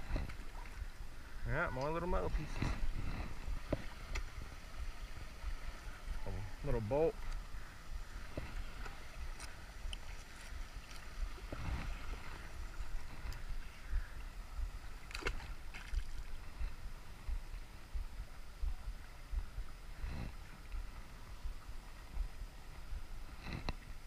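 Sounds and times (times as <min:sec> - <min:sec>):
water sloshing from wading: 0:00.0 - 0:24.0
wind rumbling on microphone: 0:00.0 - 0:24.0.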